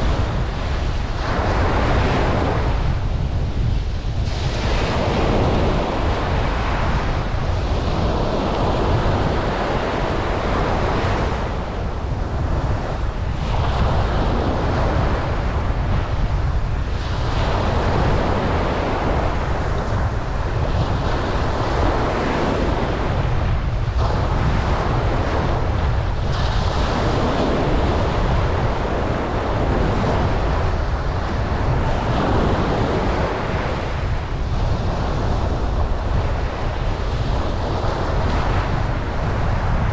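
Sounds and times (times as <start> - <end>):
ocean waves breaking on beach: 0.0 - 39.9
wind rumble on microphone: 0.0 - 39.9.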